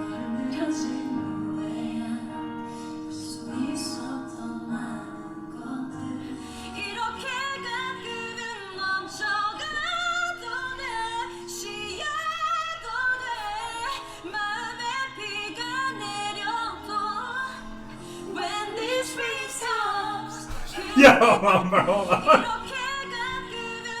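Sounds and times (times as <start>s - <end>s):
woman singing a slow ballad: 0.0s - 21.6s, 22.4s - 24.0s.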